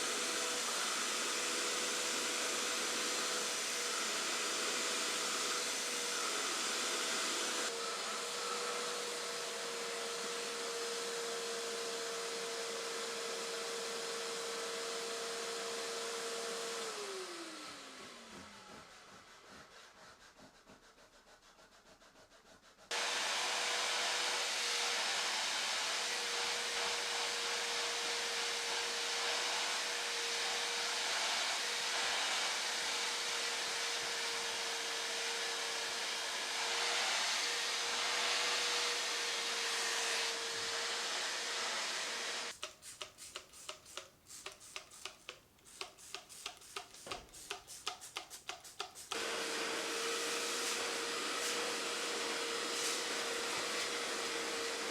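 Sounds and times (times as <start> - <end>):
carpet cleaner suction motor humming: 0.0 - 19.9, 22.9 - 42.6, 49.1 - 54.9.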